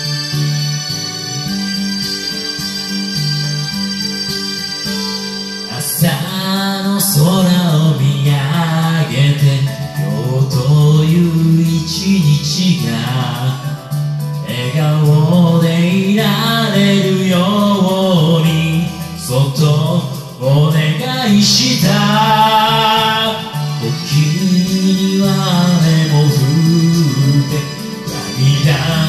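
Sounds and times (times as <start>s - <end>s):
karaoke backing track: 0.0s - 29.0s
person singing pop ballad: 5.3s - 29.0s.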